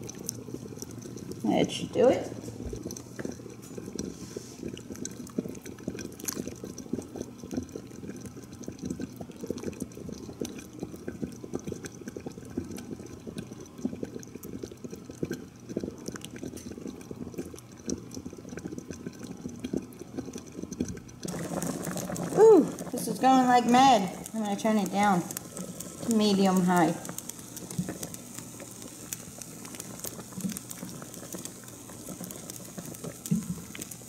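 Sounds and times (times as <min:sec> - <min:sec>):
broth boiling and bubbling: 0:00.0 - 0:34.0.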